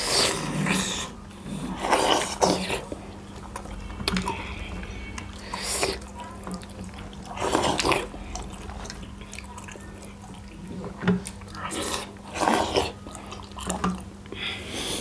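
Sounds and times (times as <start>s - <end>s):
faint steady hum: 0.0s - 15.0s
person chewing food: 0.0s - 15.0s.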